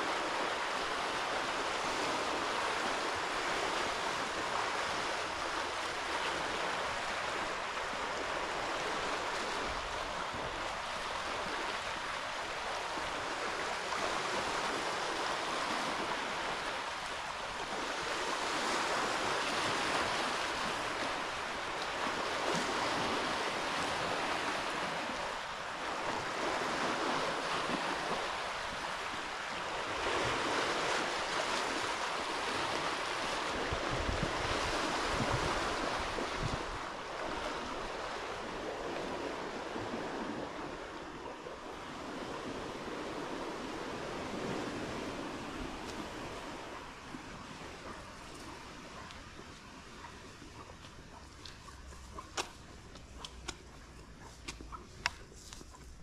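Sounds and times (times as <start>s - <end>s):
waves washing onto shore: 0.0s - 56.0s
wind rumble on microphone: 0.0s - 56.0s.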